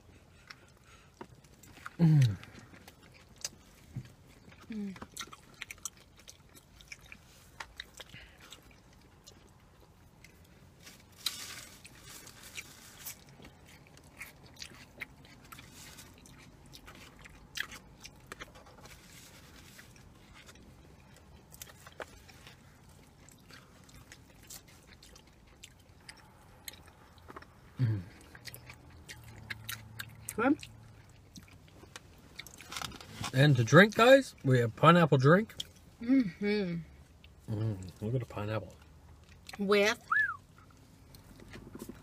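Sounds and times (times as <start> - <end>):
people chewing food: 0.0 - 42.0.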